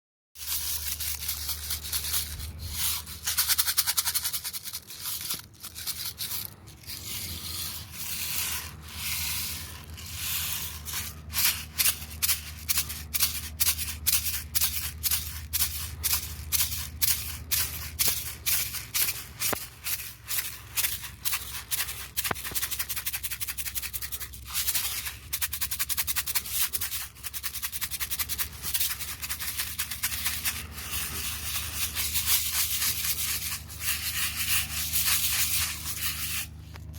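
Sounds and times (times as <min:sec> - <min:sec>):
shaker rattling: 0:00.4 - 0:36.9
steady low hum: 0:00.4 - 0:36.9.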